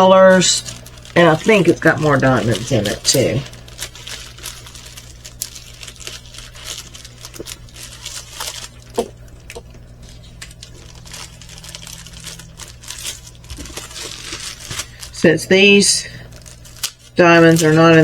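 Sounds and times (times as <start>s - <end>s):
plastic bags crinkling: 0.0s - 18.0s
steady low hum: 0.0s - 18.0s.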